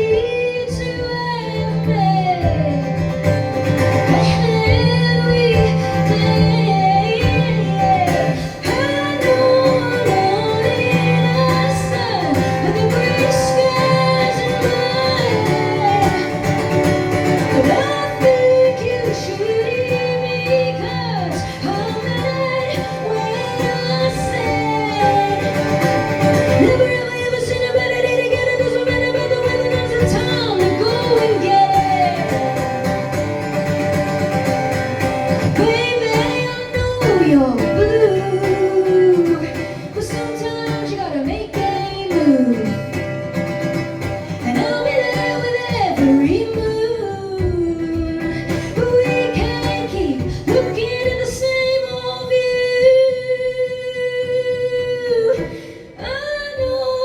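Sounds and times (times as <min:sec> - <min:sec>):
guitar: 0:00.0 - 0:57.0
woman singing: 0:00.0 - 0:57.0.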